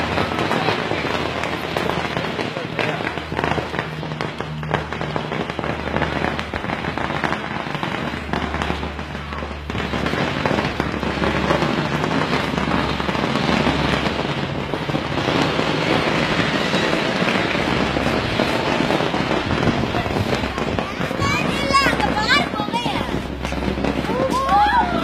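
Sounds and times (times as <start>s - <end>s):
firecrackers crackling: 0.0s - 25.0s.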